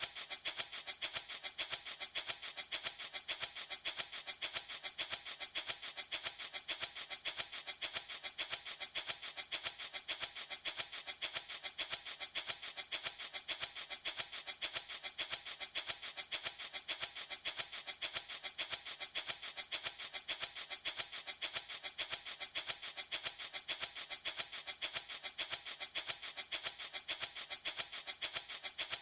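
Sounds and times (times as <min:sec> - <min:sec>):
baby rattle shaking: 0:00.0 - 0:29.0.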